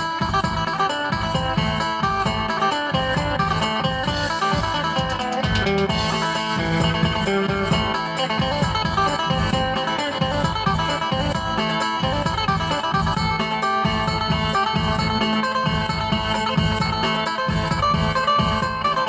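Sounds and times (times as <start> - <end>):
plucked lute melody: 0.0 - 19.0
steady beat: 0.0 - 19.0.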